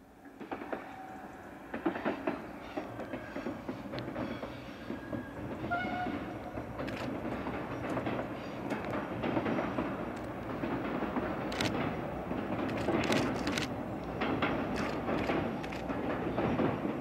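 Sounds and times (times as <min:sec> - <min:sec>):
train running rumble: 0:00.2 - 0:17.0
wheels clattering over rails: 0:01.7 - 0:17.0.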